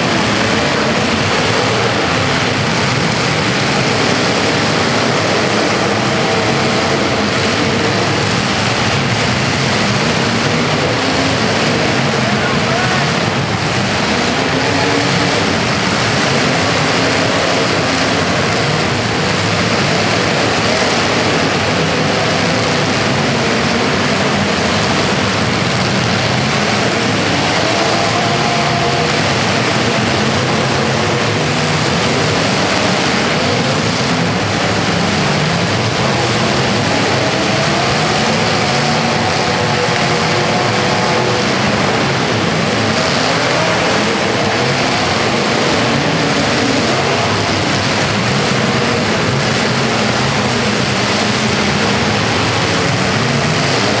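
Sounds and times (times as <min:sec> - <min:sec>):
engines running loudly: 0:00.0 - 0:54.0.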